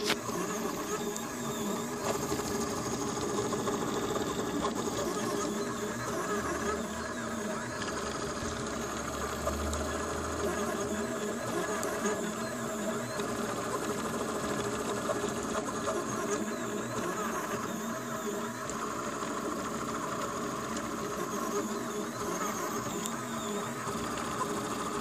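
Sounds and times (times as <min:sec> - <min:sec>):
stepper motors whirring: 0:00.0 - 0:25.0.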